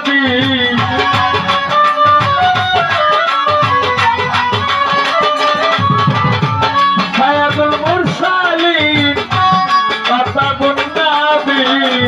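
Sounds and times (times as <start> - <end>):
steady drum beats: 0.0 - 12.0
violin playing a folk melody: 0.7 - 10.4.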